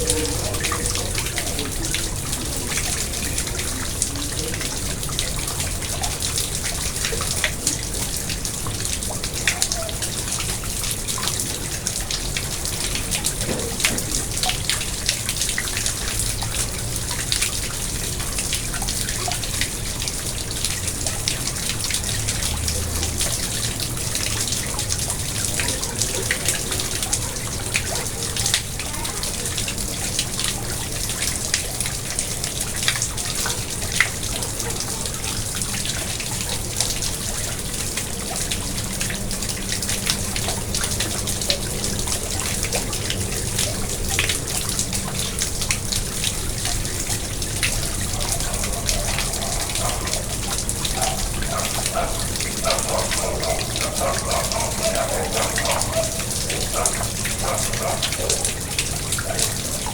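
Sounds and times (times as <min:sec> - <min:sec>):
water drips and plops: 0:00.0 - 0:59.9
water trickling and splashing: 0:00.0 - 0:59.9.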